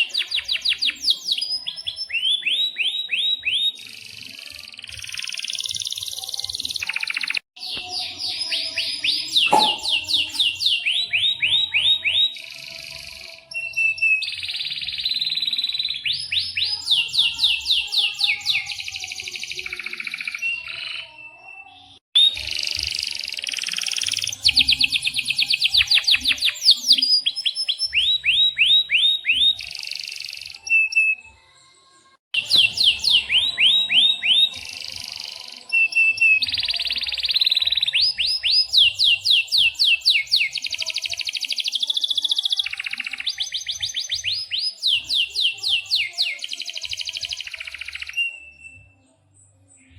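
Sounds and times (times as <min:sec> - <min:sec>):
canary singing trills: 0:00.0 - 0:31.2, 0:32.4 - 0:49.0.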